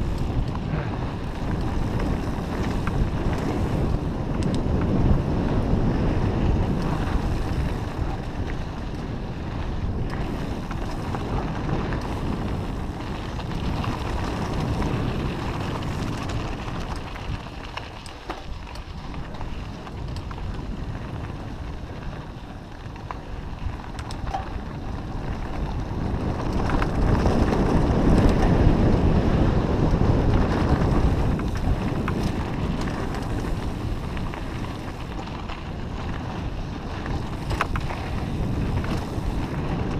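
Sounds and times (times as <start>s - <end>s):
tyres rumbling on dirt trail: 0.0s - 39.9s
wind buffeting microphone: 0.0s - 39.9s.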